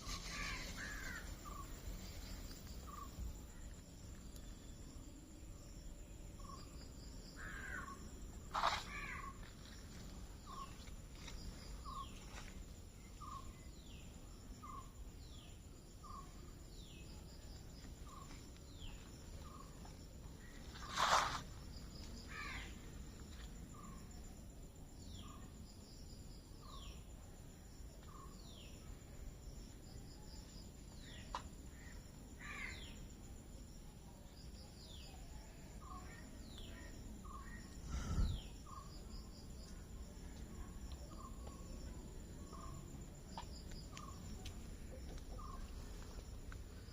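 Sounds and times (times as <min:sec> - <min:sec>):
high insect buzz: 0:00.0 - 0:27.2, 0:35.8 - 0:46.9.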